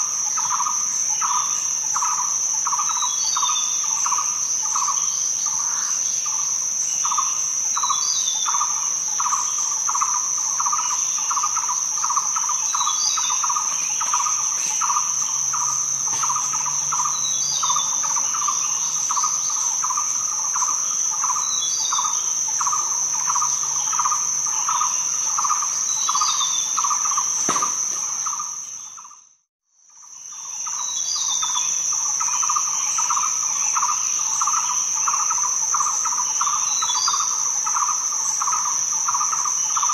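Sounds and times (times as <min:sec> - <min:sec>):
high cricket trill: 0:00.0 - 0:29.1, 0:30.0 - 0:39.9
pulsing insect chirping: 0:00.0 - 0:29.2, 0:30.0 - 0:39.9.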